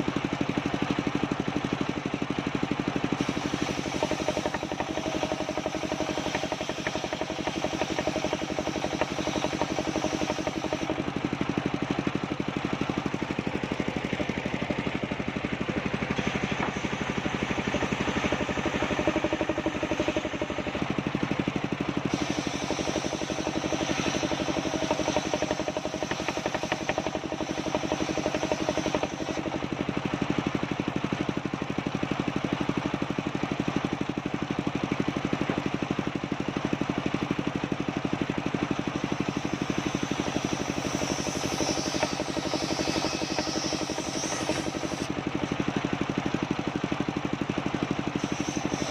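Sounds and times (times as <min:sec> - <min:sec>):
circular saw engine running: 0:00.0 - 0:48.9.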